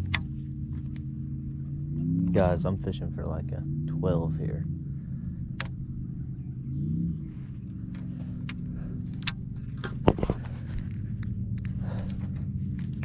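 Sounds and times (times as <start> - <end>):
electric trolling motor humming: 0.0 - 13.0.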